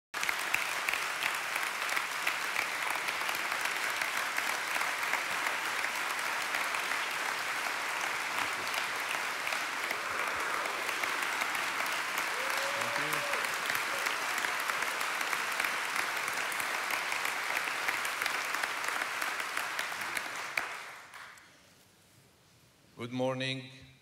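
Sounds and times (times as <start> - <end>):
congregation applauding: 0.2 - 21.5.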